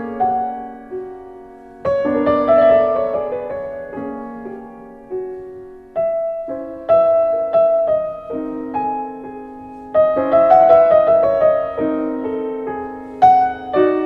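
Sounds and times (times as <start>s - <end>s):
gentle piano piece: 0.0s - 14.0s.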